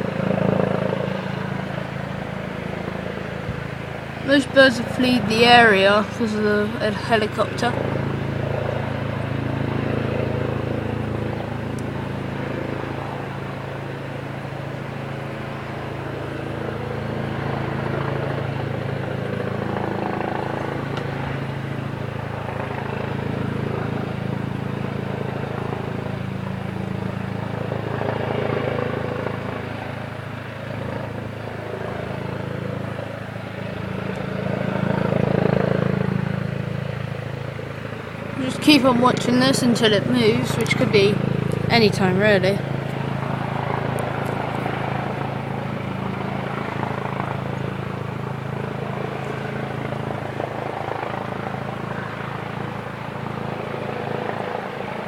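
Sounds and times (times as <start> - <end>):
helicopter hovering: 0.0 - 55.0.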